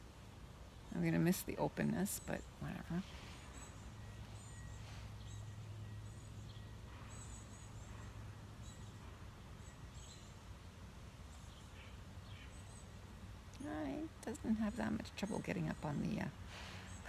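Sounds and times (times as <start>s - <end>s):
low steady hum: 0.0s - 17.0s
birds chirping: 0.6s - 17.0s.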